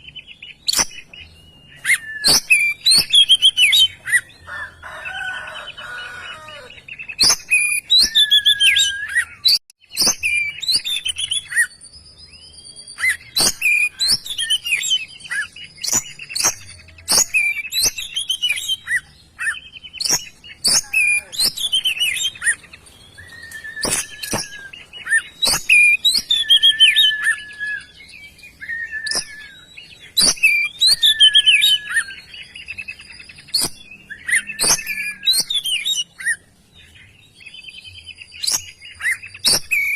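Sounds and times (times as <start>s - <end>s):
songbird whistles and chirps: 0.0s - 39.9s.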